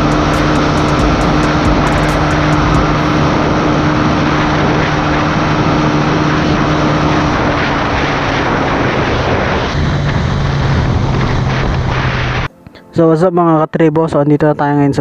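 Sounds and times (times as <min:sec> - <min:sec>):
motorcycle engine running: 0:00.0 - 0:12.5
wind rush on microphone: 0:00.0 - 0:12.5.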